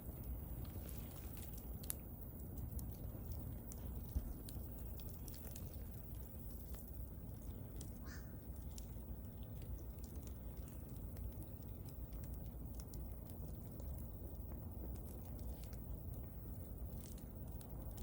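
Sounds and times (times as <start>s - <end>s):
low steady rumble of fire: 0.0s - 18.0s
wood fire crackling and popping: 0.0s - 18.0s.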